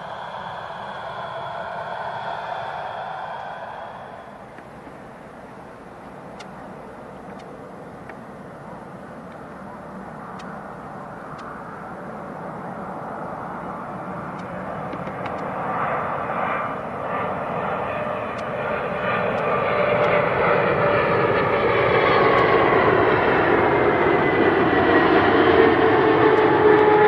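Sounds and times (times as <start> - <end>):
jet engines rushing and whining: 0.0 - 27.0.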